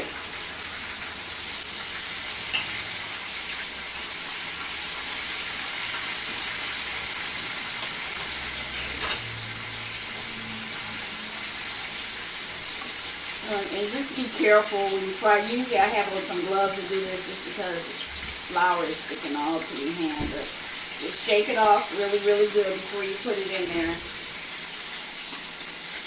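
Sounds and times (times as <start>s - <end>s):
oil sizzling deep-frying: 0.0s - 26.0s.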